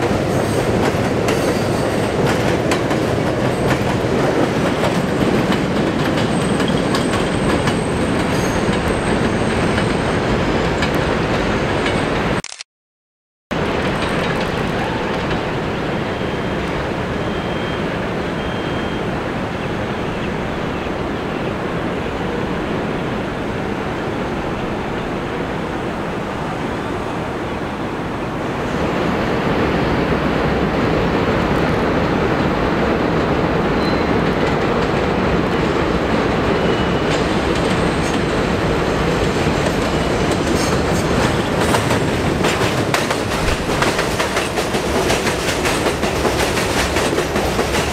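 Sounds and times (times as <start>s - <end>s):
train wheels rumbling on rail: 0.0s - 12.4s, 13.6s - 47.9s.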